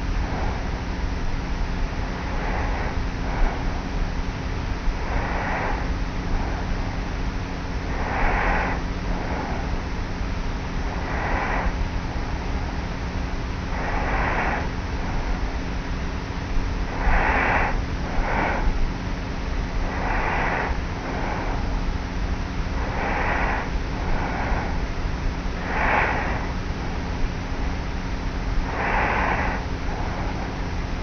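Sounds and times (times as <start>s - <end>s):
steady hiss and faint hum: 0.0s - 31.0s.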